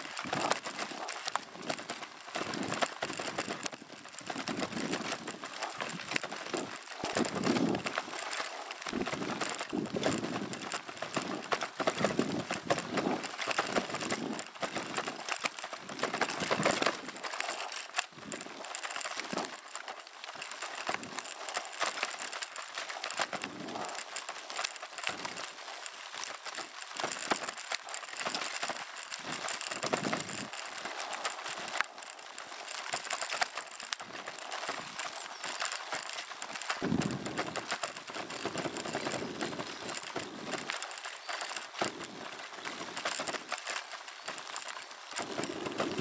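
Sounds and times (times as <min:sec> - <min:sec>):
bicycle tyres on dirt track: 0:00.0 - 0:46.0
bike rattles and clicks: 0:00.0 - 0:46.0.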